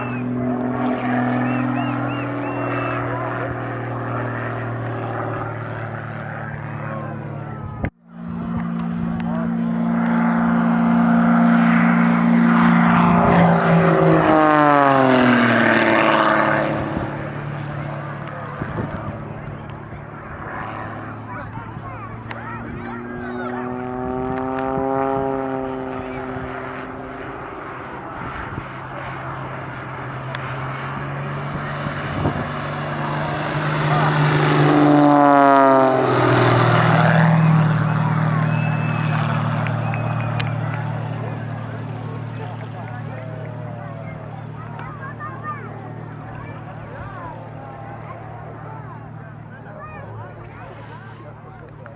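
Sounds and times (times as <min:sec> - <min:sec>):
propeller airplane flying past: 0:00.0 - 0:51.9.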